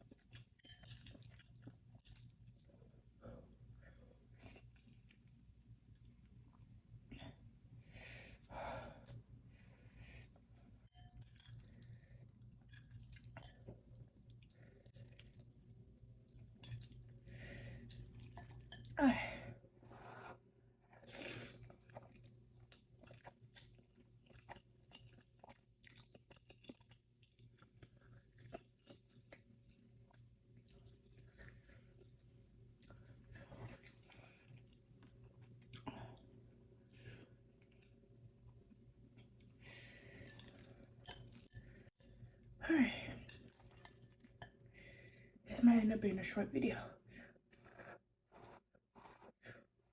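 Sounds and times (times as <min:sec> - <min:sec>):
person chewing noodles: 0:00.0 - 0:06.8, 0:10.3 - 0:19.0, 0:19.9 - 0:42.6, 0:43.2 - 0:44.8, 0:47.5 - 0:49.6.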